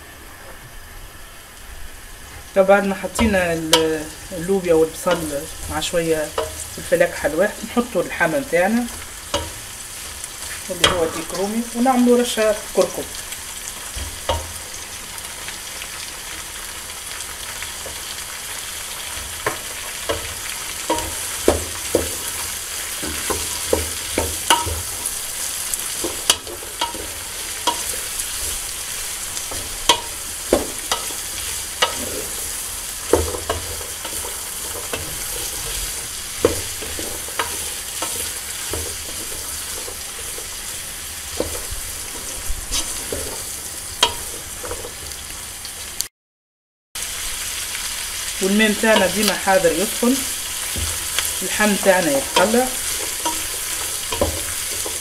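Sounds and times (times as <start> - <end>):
food sizzling in oil: 0.6 - 46.1, 47.0 - 55.0.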